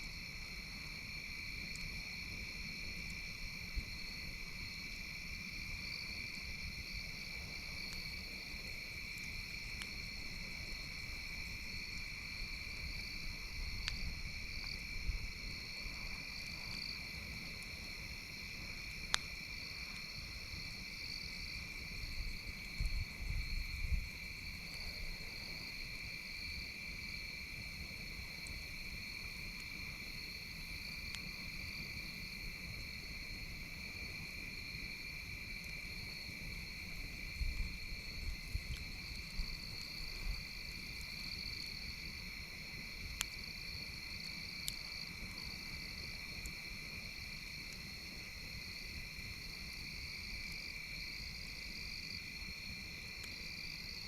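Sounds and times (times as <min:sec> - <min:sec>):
crickets trilling: 0:00.0 - 0:54.0
campfire crackling pops: 0:05.6 - 0:33.6, 0:34.2 - 0:49.8, 0:51.3 - 0:53.9.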